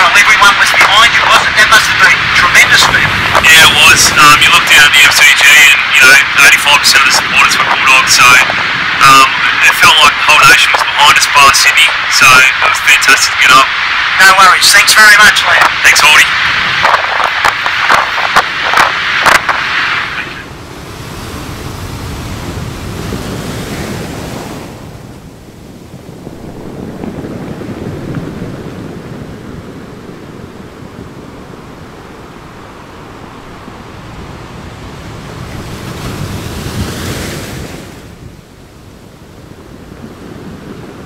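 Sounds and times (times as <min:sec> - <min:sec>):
small waves washing onto beach: 0:00.0 - 0:41.0.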